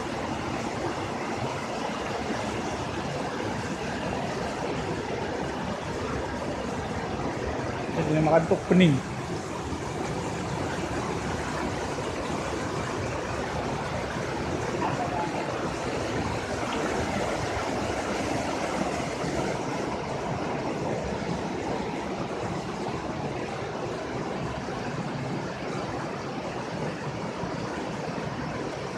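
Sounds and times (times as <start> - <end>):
water splashing over rocks: 0.0 - 28.9.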